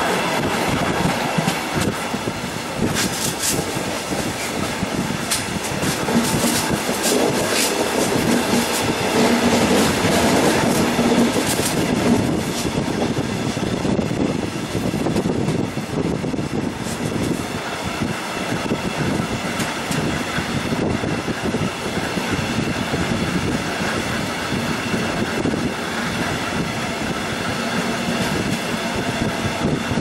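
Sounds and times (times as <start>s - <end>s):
train rumble: 0.0s - 30.0s
wind rush: 0.0s - 30.0s.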